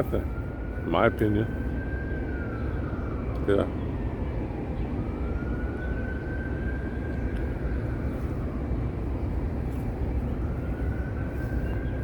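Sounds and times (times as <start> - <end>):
distant vehicle rumble: 0.0 - 12.0.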